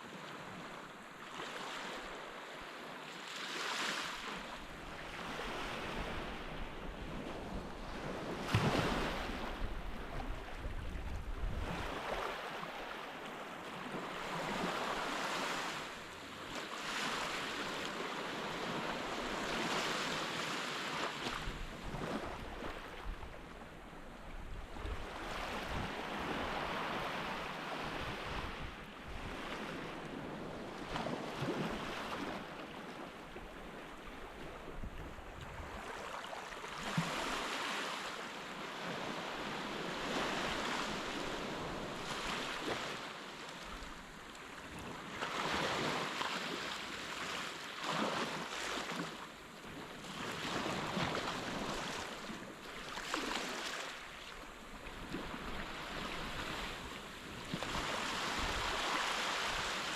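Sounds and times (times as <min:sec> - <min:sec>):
ocean surf on sandy beach: 0:00.0 - 0:59.9.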